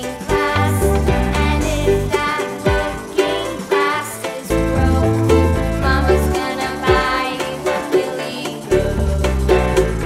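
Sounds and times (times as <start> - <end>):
cheerful background music: 0.0 - 10.0.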